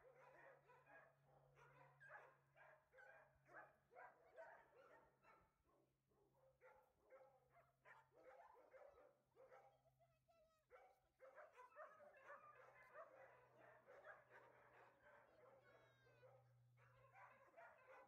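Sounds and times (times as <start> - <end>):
dogs barking and yapping: 0.0 - 5.6, 6.4 - 9.8, 10.4 - 18.0.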